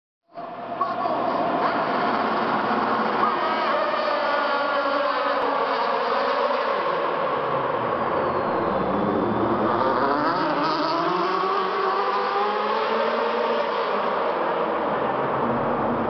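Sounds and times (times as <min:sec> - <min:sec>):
racing car engines revving: 0:00.3 - 0:16.0.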